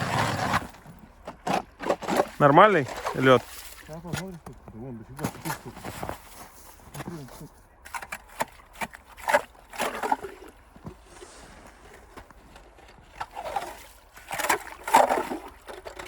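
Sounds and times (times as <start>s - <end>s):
water and slush splashing: 0.0s - 16.0s.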